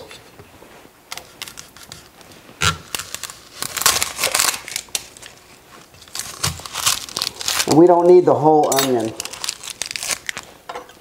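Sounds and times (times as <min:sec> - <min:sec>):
onion skin crackling: 0:01.1 - 0:10.6.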